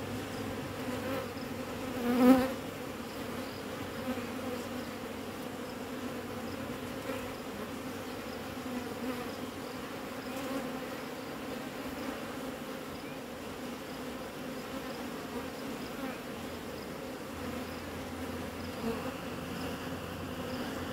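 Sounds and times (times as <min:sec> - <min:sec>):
honeybees buzzing: 0:00.0 - 0:20.9.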